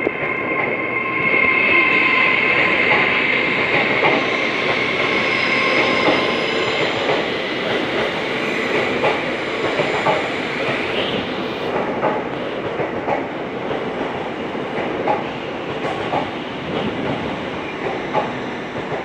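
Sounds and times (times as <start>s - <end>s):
train high steady whine: 0.0s - 19.0s
train wheels rolling on rail: 0.0s - 19.0s.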